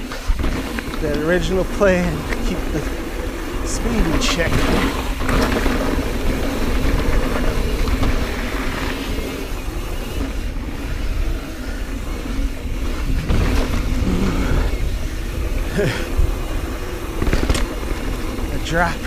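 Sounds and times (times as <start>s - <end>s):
bicycle freehub buzzing: 0.0s - 19.0s
tyres rolling over dirt: 0.0s - 19.0s
wind rumbling on microphone: 0.0s - 19.0s.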